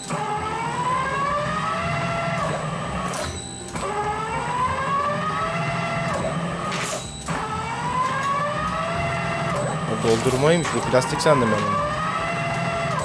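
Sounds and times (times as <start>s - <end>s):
shredder humming: 0.0s - 13.0s.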